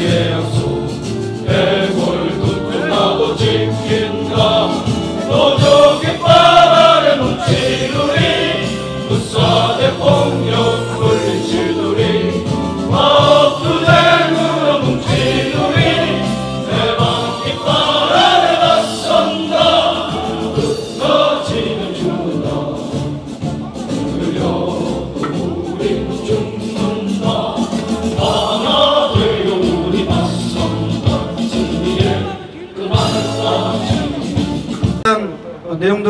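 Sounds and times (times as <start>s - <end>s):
group of voices singing: 0.0s - 34.8s
instrumental backing: 0.0s - 35.7s.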